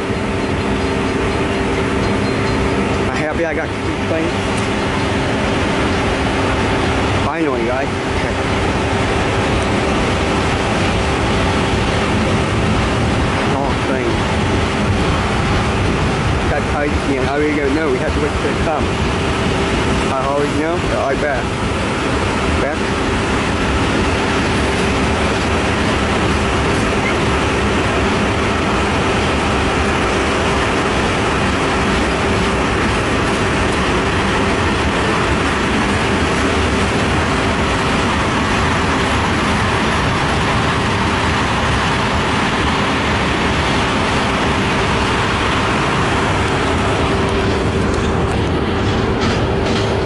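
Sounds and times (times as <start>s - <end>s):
constant tone: 0.0s - 50.0s
freight train wheels rumbling: 0.0s - 50.0s.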